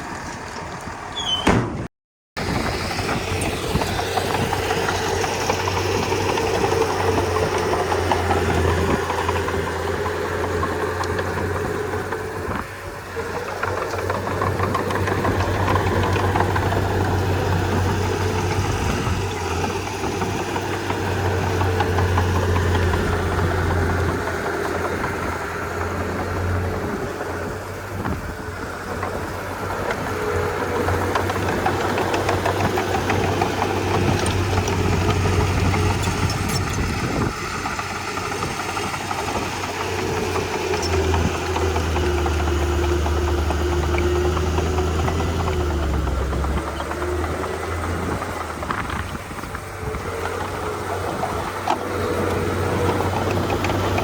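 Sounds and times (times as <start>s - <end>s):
bulldozer diesel engine drone: 2.4s - 54.0s.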